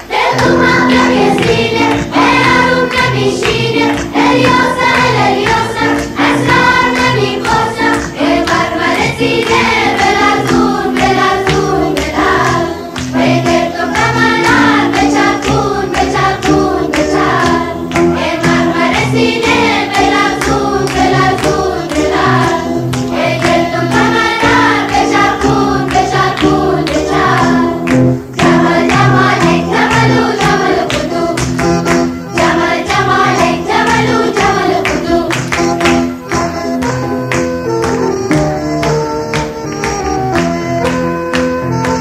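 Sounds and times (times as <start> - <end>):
group singing in chorus: 0.0 - 36.1
percussion beat: 0.2 - 42.0.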